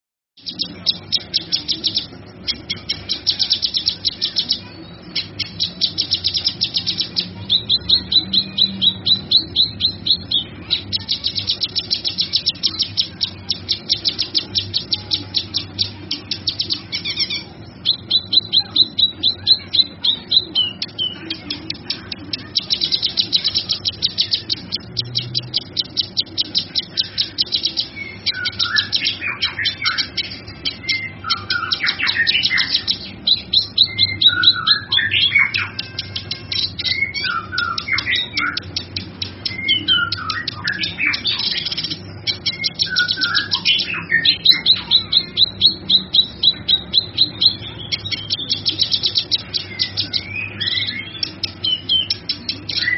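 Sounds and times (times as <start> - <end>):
bird chirping rapidly: 0.4 - 52.9
faint low hum: 0.4 - 52.9.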